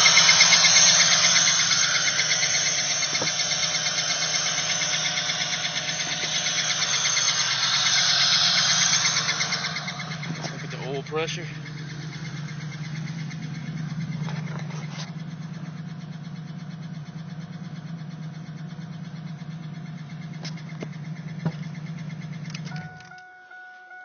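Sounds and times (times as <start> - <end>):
engine idling with rapid ticking: 0.0 - 24.0.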